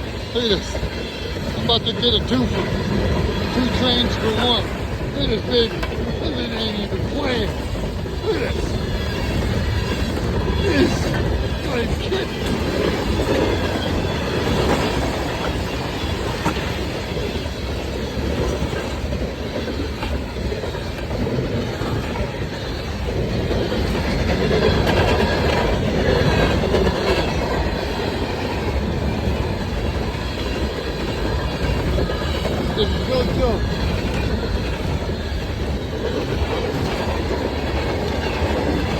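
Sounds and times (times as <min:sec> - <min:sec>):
high wheel squeal: 0:00.0 - 0:38.9
train wheels rumbling on rails: 0:00.0 - 0:38.9.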